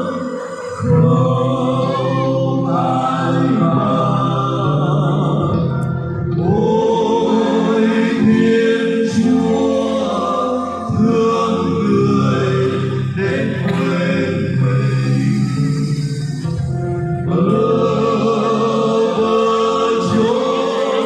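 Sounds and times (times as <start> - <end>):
choir singing a carol: 0.0 - 21.0
musical accompaniment: 0.0 - 21.0.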